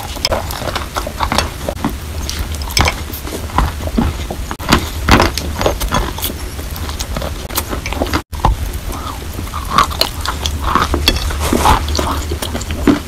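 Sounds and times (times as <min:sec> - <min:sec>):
person crunching chalk: 0:00.0 - 0:13.0.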